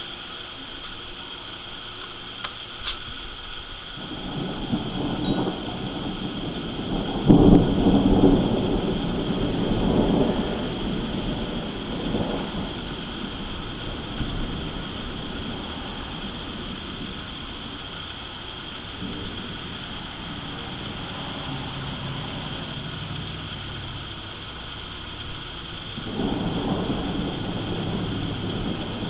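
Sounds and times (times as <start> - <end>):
thunder rumbling: 3.9 - 29.0.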